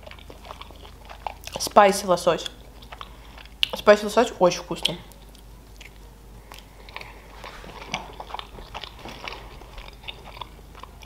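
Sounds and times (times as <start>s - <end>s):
person chewing: 0.0s - 3.9s, 4.8s - 11.0s.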